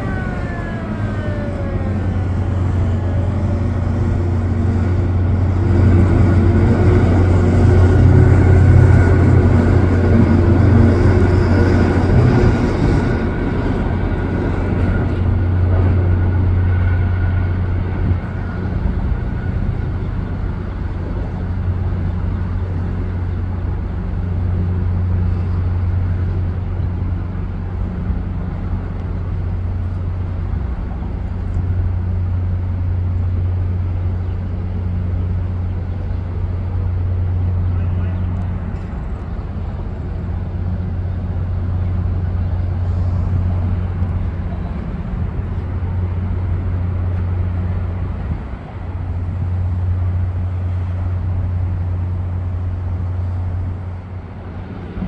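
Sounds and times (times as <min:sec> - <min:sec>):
motorboat engine droning: 0:00.0 - 0:55.0.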